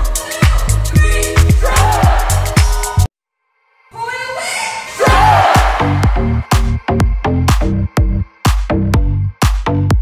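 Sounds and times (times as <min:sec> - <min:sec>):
electronic dance music: 0:00.0 - 0:03.1, 0:04.7 - 0:10.0.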